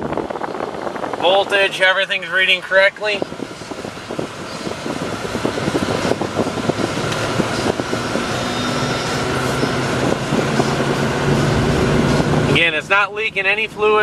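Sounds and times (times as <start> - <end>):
pickup truck engine: 0.0 - 14.0
road and tyre rumble: 0.0 - 14.0.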